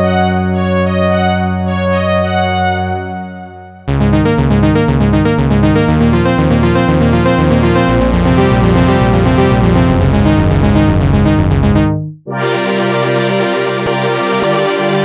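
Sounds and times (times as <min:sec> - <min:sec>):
pulsing arpeggiated synth bass: 0:00.0 - 0:15.0.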